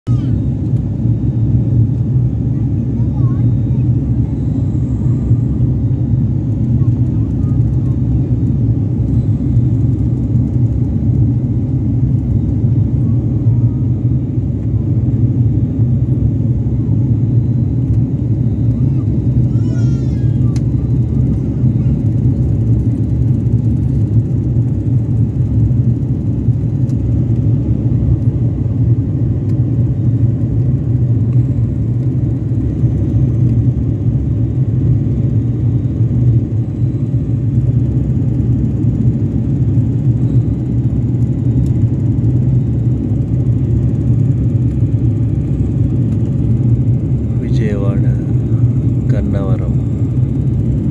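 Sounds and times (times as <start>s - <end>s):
airliner cabin drone: 0.1s - 50.9s.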